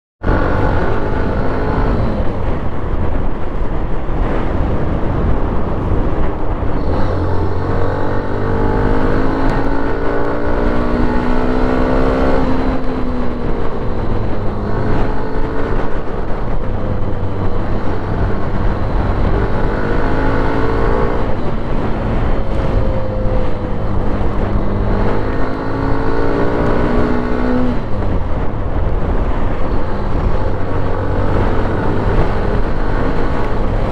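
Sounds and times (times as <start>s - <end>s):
motorcycle engine revving: 0.2s - 33.9s.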